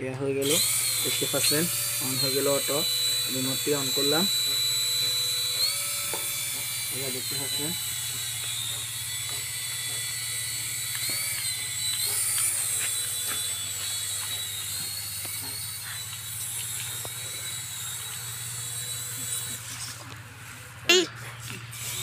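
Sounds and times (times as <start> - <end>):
toy helicopter motors whining: 0.1 - 22.0.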